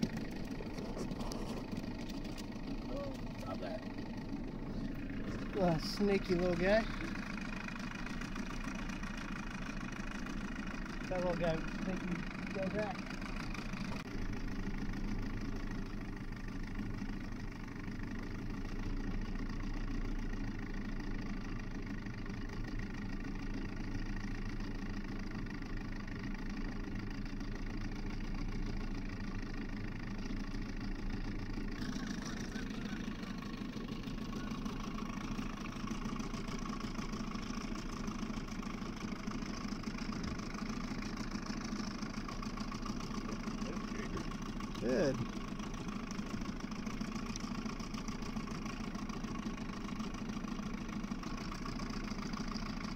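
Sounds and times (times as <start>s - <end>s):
outboard motor droning: 0.0s - 52.9s.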